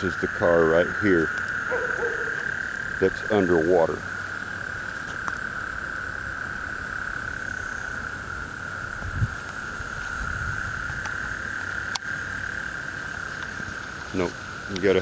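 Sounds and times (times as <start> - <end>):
frogs calling: 0.0 - 15.0
high insect buzz: 0.0 - 15.0.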